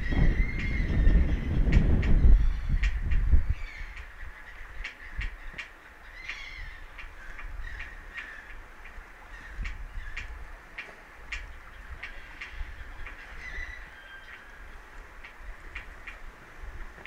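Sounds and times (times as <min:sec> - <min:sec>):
birds giving harsh calls: 0:00.0 - 0:16.3.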